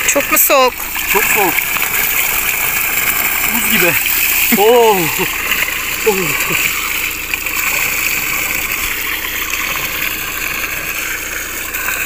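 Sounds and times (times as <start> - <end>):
water pouring into stone trough: 0.0 - 12.0.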